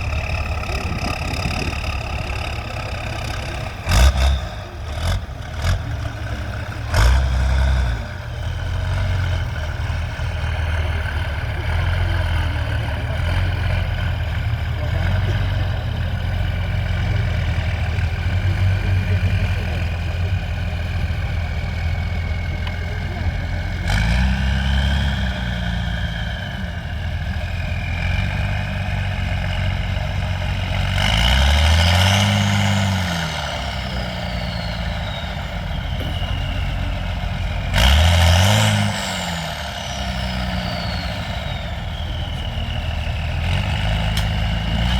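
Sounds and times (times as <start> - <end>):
truck engine running under load: 0.0 - 44.9.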